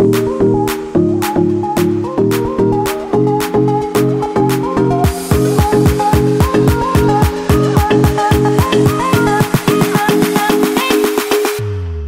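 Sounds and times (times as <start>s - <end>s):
electronic music with beat: 0.0s - 12.0s.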